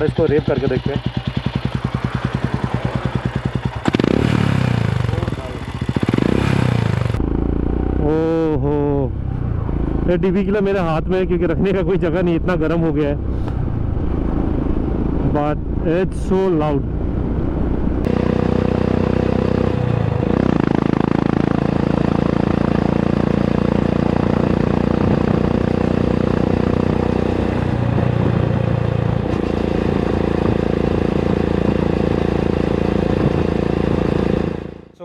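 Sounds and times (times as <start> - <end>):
loud motorcycle engine running: 0.0 - 35.0.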